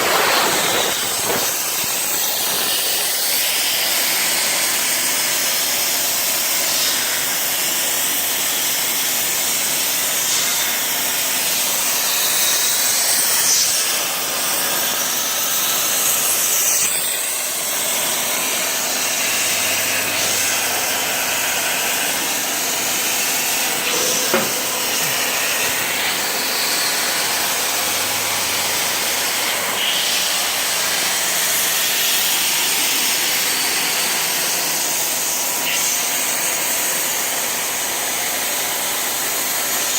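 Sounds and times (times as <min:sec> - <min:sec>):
plasma torch cutting metal: 0:00.0 - 0:39.9.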